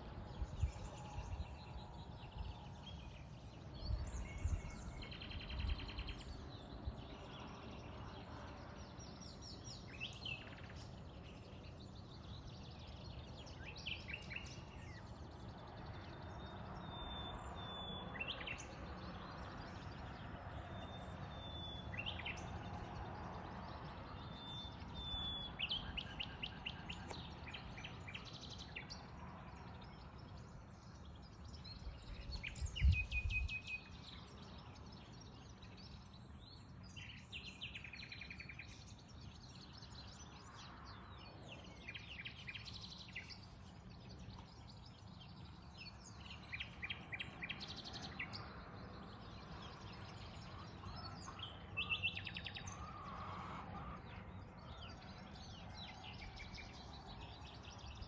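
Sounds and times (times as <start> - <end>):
songbirds singing and calling: 0.0 - 58.0.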